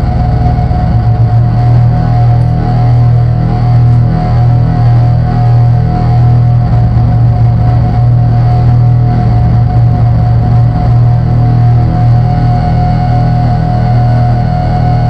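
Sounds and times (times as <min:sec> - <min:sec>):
drone synthesizer music: 0:00.0 - 0:15.0.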